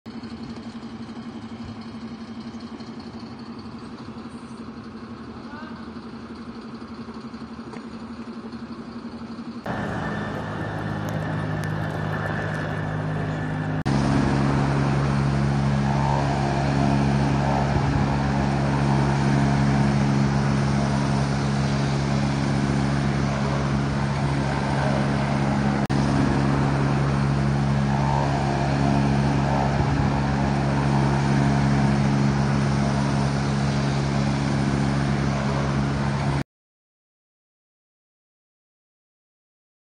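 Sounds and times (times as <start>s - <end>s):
vehicle engine idling: 0.1s - 36.4s.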